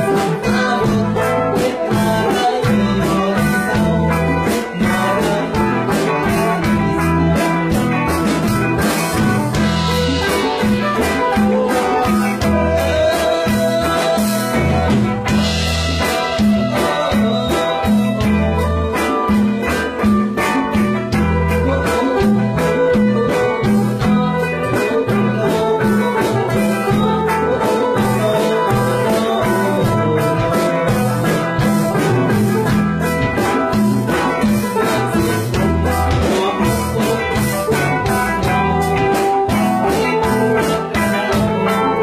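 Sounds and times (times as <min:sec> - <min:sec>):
band jamming: 0:00.0 - 0:42.0
bass line: 0:00.0 - 0:42.0
drum beat: 0:00.0 - 0:42.0.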